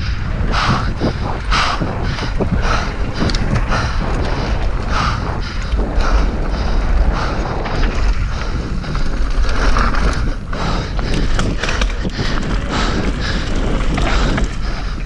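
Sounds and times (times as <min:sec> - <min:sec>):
wind rumble on microphone: 0:00.0 - 0:15.0
bike tyres crunching over dirt: 0:00.1 - 0:15.0
bike rattling with sharp clicks: 0:00.5 - 0:15.0.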